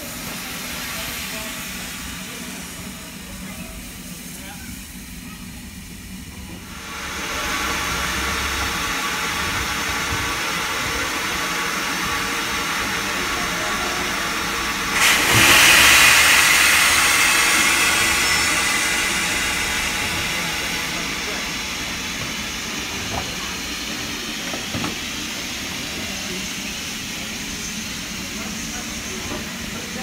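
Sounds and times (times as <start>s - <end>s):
steam hissing: 0.0s - 30.0s.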